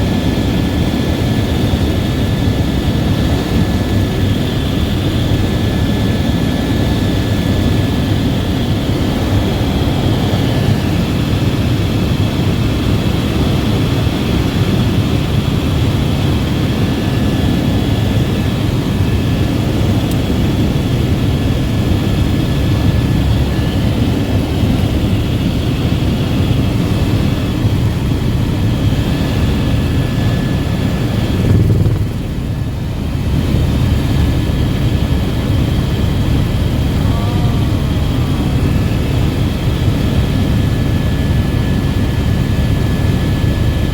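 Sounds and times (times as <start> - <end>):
helicopter deep drone: 0.0 - 43.9
high whine: 0.0 - 43.9.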